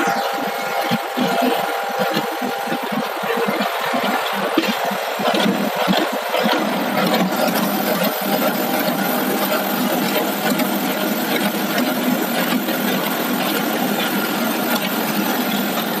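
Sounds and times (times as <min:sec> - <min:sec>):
fabric cutting machine running: 0:00.0 - 0:16.0.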